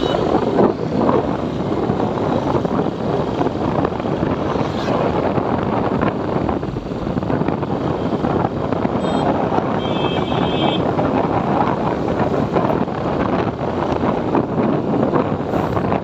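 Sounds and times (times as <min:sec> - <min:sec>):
motorcycle engine and road noise: 0:00.0 - 0:16.0
wind rushing over microphone: 0:00.0 - 0:16.0.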